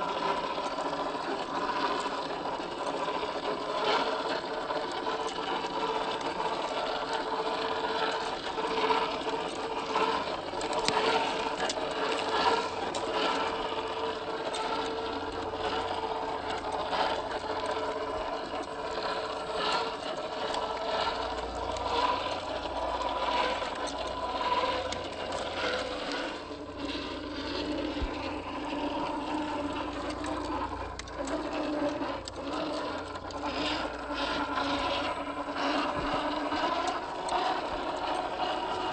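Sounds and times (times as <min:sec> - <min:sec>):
toy car electric motor whining: 0:00.0 - 0:38.9.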